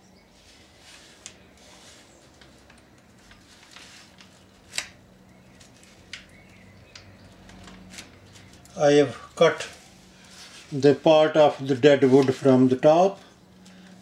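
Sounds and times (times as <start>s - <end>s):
faint rustling: 0.3s - 6.7s, 7.4s - 14.0s.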